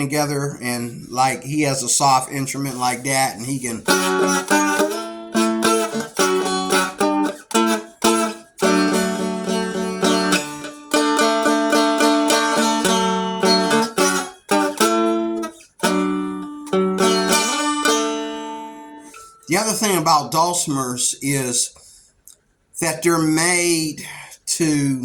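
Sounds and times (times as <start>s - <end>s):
dulcimer strumming chords: 0.0s - 20.9s.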